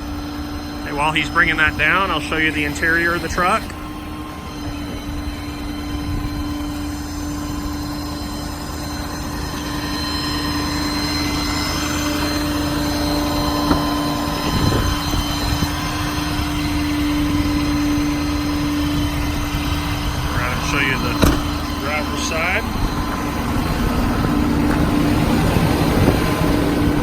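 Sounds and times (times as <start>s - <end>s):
diesel truck engine running: 0.0s - 27.0s
hydraulic whine: 0.0s - 27.0s.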